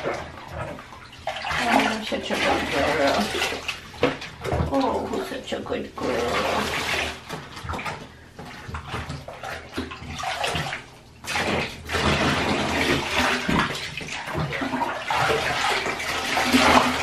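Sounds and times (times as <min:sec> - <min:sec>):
water splashing in bathtub: 0:00.0 - 0:17.0.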